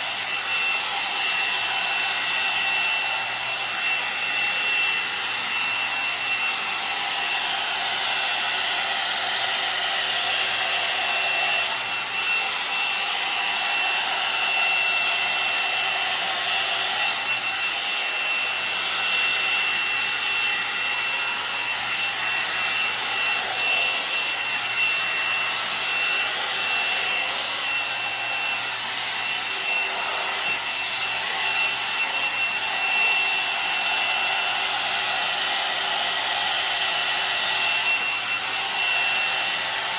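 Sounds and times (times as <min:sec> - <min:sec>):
hair dryer brush blowing air: 0:00.0 - 0:39.9.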